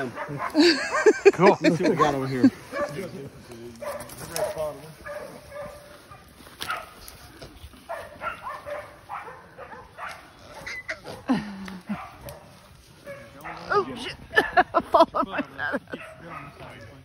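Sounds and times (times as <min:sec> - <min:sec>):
dogs barking: 0:00.0 - 0:11.3, 0:11.9 - 0:14.8, 0:15.8 - 0:17.0.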